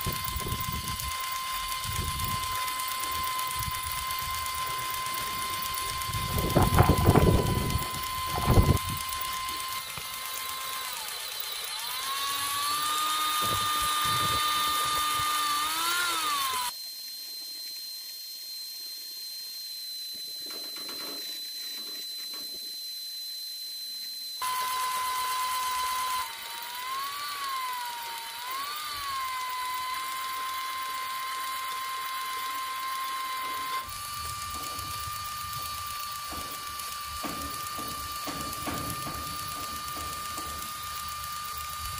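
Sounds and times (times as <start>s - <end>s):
small motor whining: 0.0s - 41.9s.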